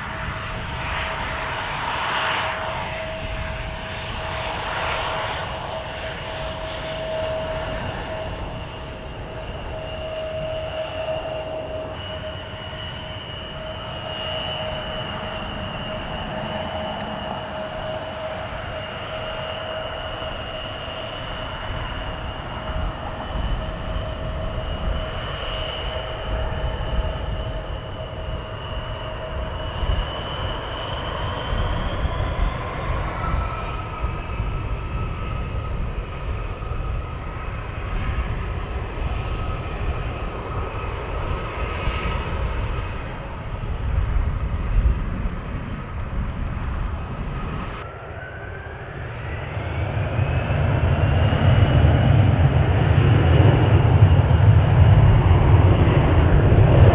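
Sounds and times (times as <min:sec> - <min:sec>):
jet engines whining: 0:00.0 - 0:56.9
wind rumble on microphone: 0:00.0 - 0:56.9.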